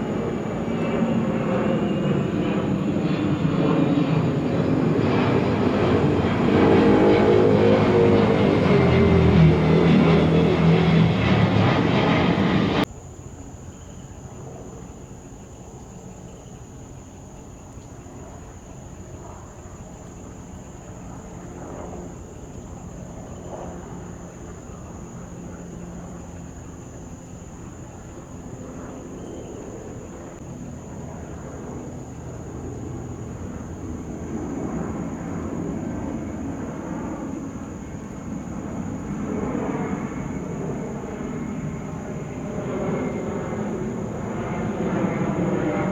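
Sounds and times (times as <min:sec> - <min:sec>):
distant jet engines rumbling: 0:00.0 - 0:12.9, 0:18.1 - 0:45.9.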